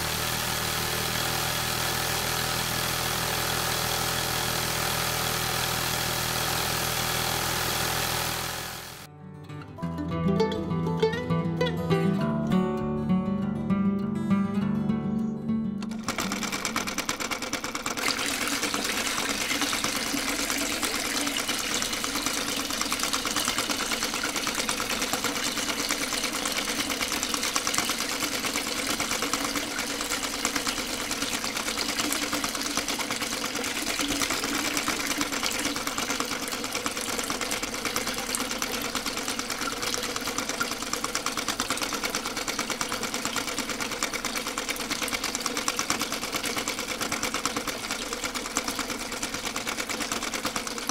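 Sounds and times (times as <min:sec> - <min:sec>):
small electric motor whirring: 0:00.0 - 0:09.1, 0:15.8 - 0:50.9.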